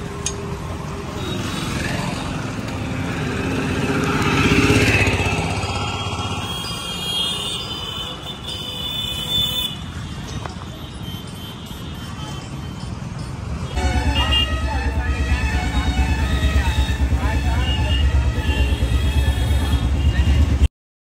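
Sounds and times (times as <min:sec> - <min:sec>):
auto-rickshaw engine passing: 0:00.0 - 0:10.7, 0:13.0 - 0:20.7
street traffic: 0:00.0 - 0:20.7.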